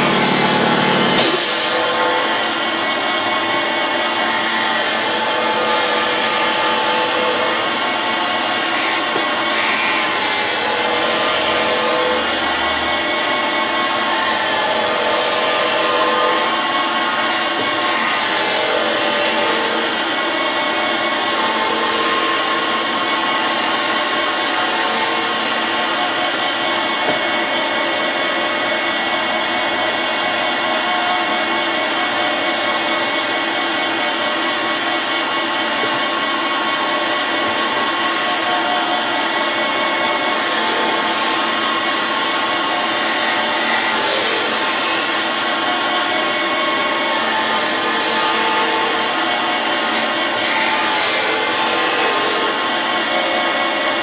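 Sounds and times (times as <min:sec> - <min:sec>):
grinder wheel grinding metal: 0:00.0 - 0:54.0
machine whine: 0:00.0 - 0:54.0.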